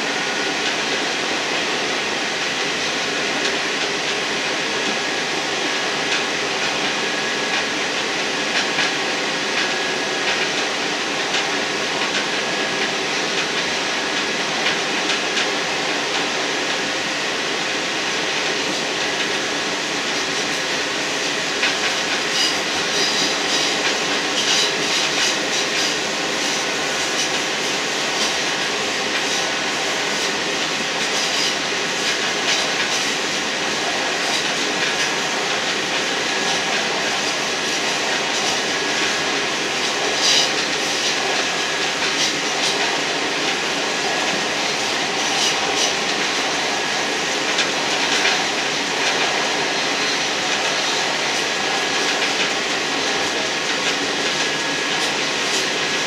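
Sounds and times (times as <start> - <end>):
train wheels running on track: 0.0 - 56.0.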